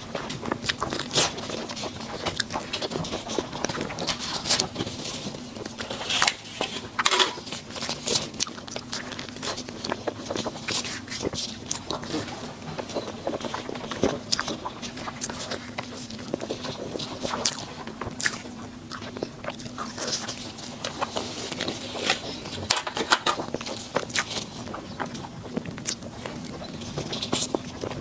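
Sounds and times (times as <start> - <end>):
faint steady hum: 0.0 - 28.0
person chewing dessert: 0.0 - 28.0.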